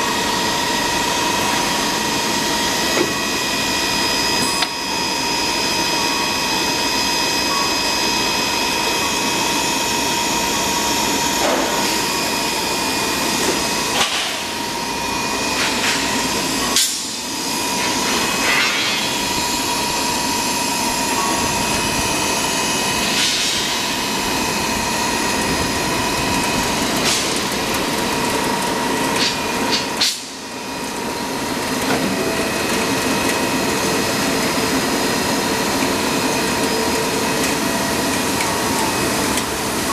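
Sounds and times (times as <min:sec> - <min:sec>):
machine noise with high whine: 0:00.0 - 0:39.9.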